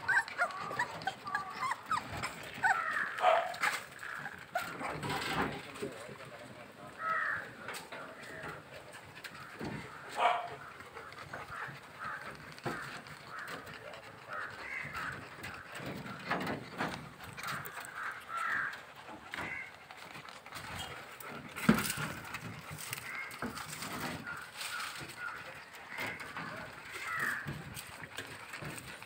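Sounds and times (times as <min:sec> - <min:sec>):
puppies whining and yelping: 0:00.0 - 0:05.3, 0:09.0 - 0:29.0.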